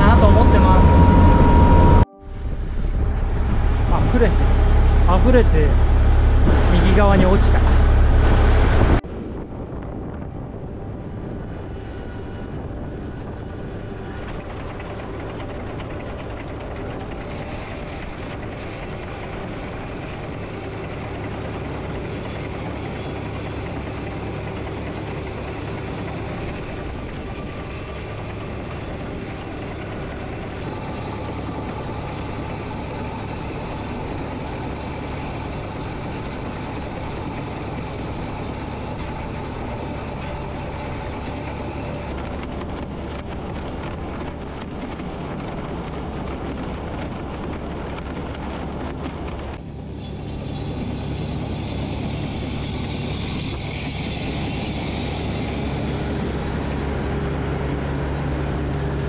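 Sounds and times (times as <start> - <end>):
combine harvester drone: 0.0 - 59.0.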